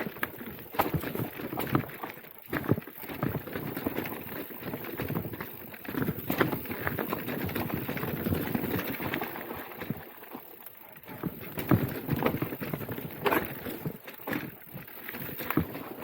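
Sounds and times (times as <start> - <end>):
bike tyres on dirt and rock: 0.0 - 16.0.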